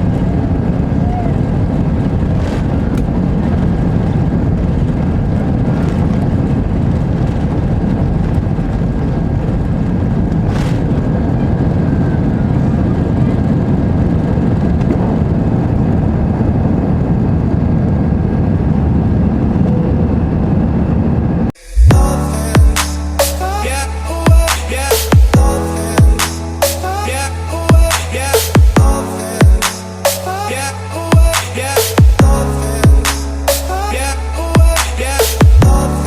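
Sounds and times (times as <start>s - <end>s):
jet engine and airflow rumble: 0.0s - 36.0s.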